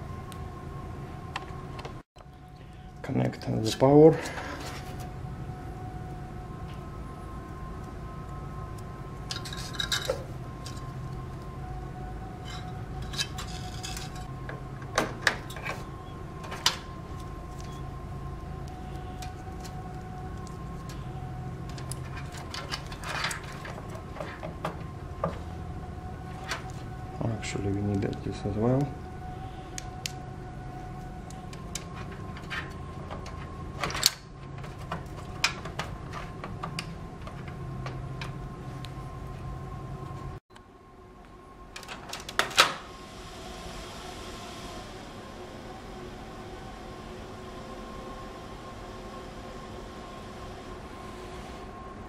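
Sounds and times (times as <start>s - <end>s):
steady background hum: 0.0s - 52.0s.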